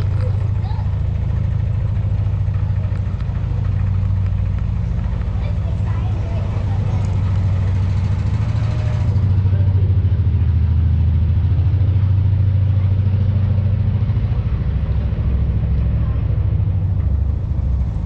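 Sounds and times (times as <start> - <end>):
diesel engine throbbing: 0.0 - 18.0.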